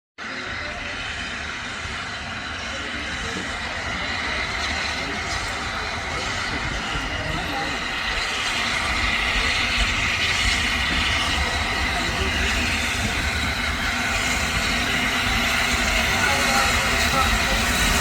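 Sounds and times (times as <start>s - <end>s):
steam locomotive wheels rolling: 0.3s - 18.0s.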